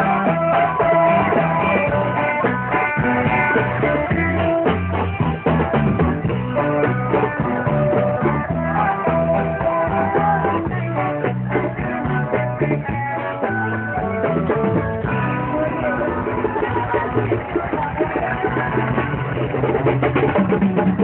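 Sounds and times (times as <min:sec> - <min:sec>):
bass line: 0:00.0 - 0:21.0
drum kit beat: 0:00.0 - 0:21.0
guitars: 0:00.0 - 0:21.0.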